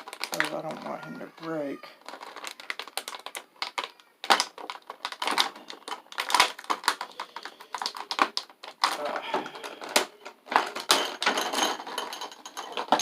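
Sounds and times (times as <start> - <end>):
packaging clicking and crackling: 0.0 - 13.0.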